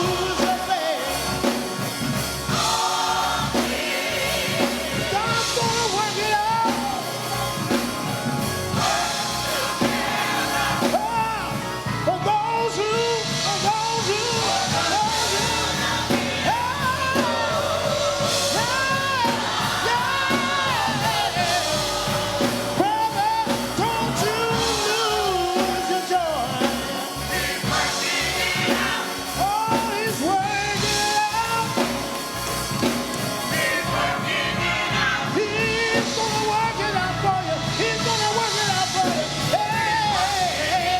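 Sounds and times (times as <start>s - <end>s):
band with drum kit: 0.0s - 40.9s
person singing gospel: 0.0s - 40.9s.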